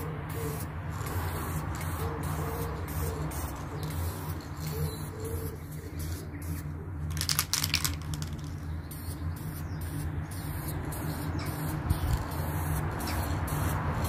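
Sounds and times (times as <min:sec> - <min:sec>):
spray paint can hissing: 0:00.0 - 0:14.0.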